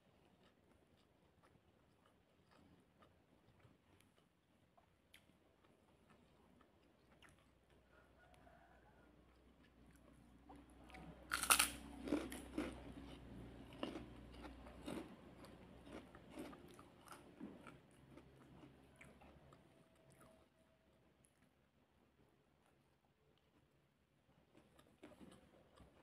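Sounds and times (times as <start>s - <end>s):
crunching and chewing food: 0.0s - 26.0s.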